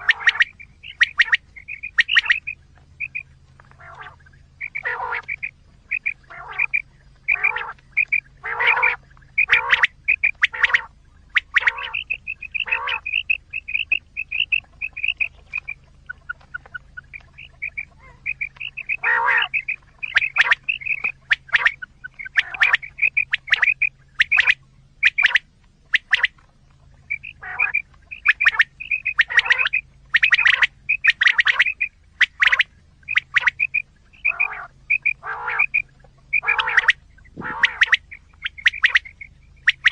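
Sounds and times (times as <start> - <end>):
quail calls: 0.0 - 39.9.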